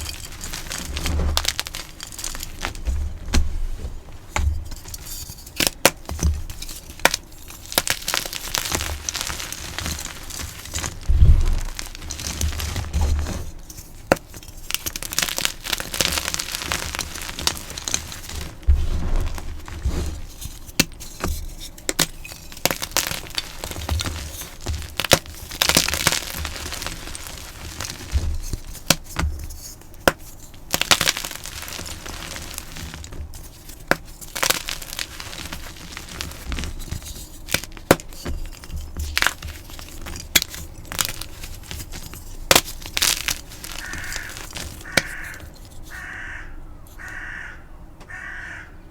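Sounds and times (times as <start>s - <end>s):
chalk blocks crushed by hand: 0.0s - 46.2s.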